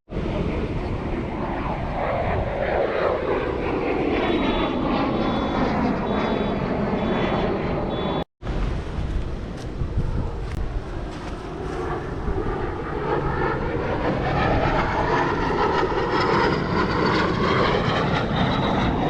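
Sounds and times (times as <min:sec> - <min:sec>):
airplane flying past: 0:00.1 - 0:19.0.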